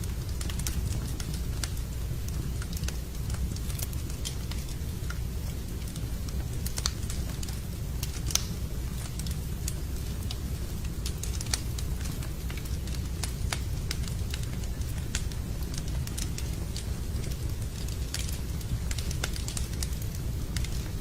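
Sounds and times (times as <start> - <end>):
campfire wood crackling and popping: 0.0 - 21.0
low rumble of flames: 0.0 - 21.0.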